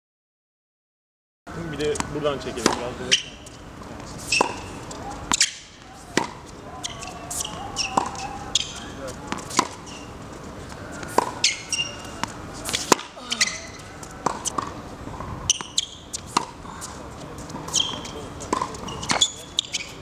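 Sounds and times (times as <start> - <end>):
tennis balls struck and bouncing: 1.8 - 20.0.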